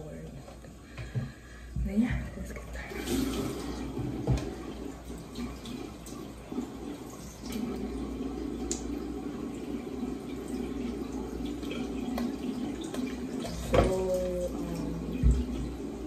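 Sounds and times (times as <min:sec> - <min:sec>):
tap water splashing into sink: 0:00.5 - 0:16.0.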